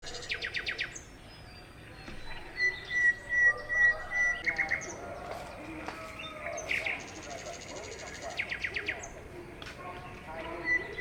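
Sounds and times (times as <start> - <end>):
birds chirping and whistling: 0.0 - 9.2, 10.0 - 11.0.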